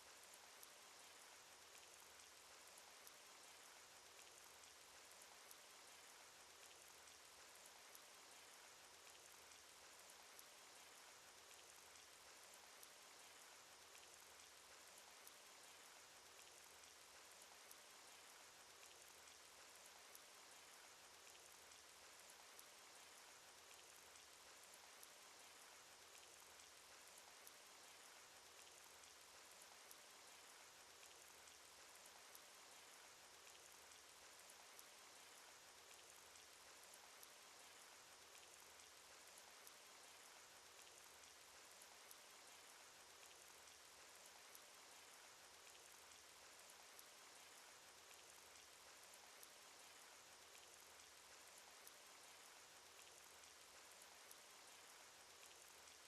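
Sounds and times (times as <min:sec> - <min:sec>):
rainfall hiss: 0:00.0 - 0:56.0
small raindrop ticks: 0:00.0 - 0:56.0.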